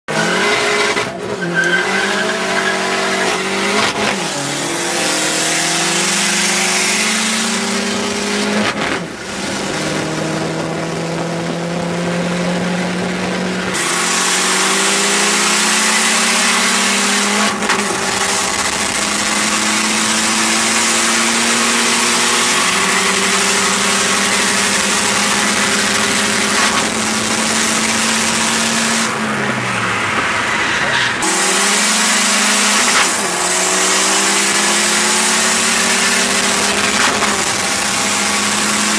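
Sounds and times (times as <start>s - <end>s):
car engines revving: 0.1s - 38.9s.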